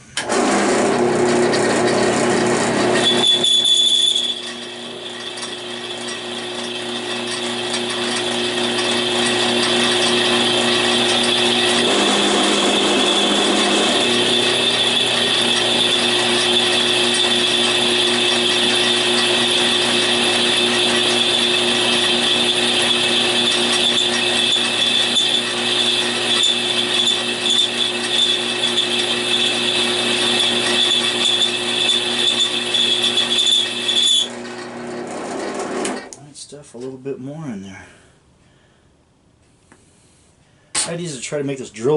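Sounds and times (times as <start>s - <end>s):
drill press cutting steel: 0.2s - 36.2s
machine hum: 0.2s - 36.2s.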